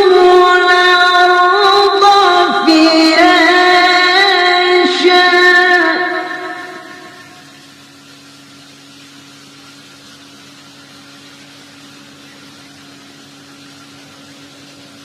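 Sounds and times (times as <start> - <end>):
low steady hum: 0.0 - 15.0
steady hiss: 0.0 - 15.0.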